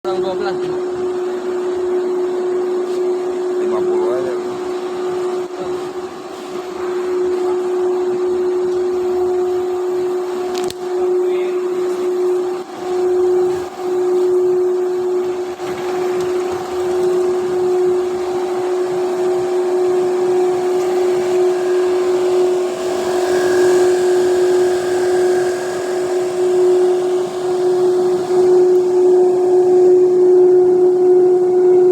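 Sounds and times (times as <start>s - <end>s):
extruder machine humming: 0.0s - 31.9s
noisy background: 0.0s - 31.9s.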